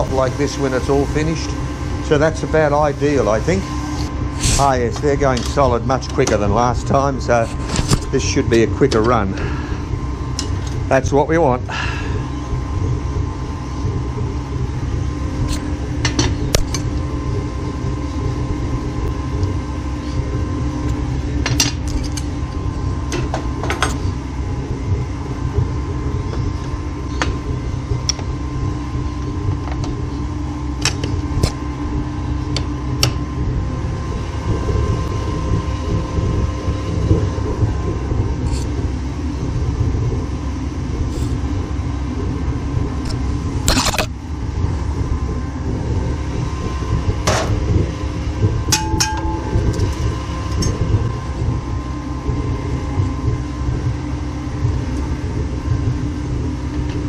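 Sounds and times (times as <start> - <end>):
gas burners roaring: 0.0 - 57.0.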